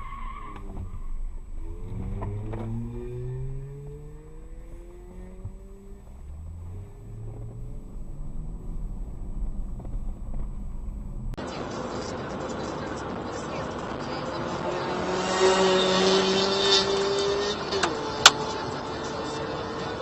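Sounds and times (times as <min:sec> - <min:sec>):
car engine accelerating: 0:00.0 - 0:20.0
road noise: 0:00.0 - 0:20.0.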